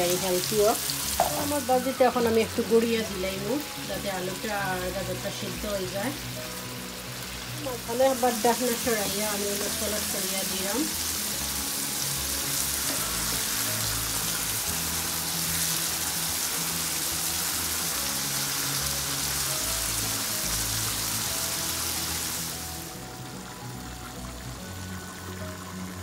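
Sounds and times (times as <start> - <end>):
soft background music: 0.0 - 26.0
vegetables sizzling in oil: 0.0 - 26.0.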